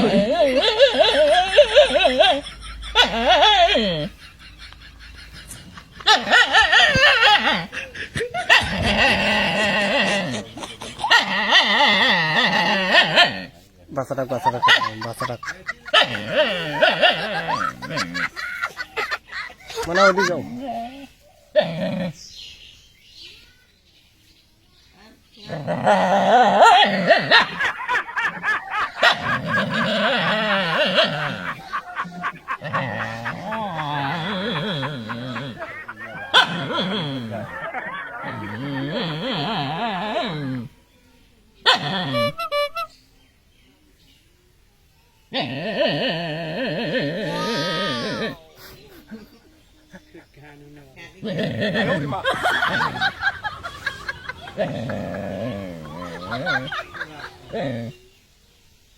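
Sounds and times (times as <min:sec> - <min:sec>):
loud laughter: 0:00.0 - 0:21.8, 0:25.6 - 0:40.7, 0:41.7 - 0:42.9, 0:45.4 - 0:58.0.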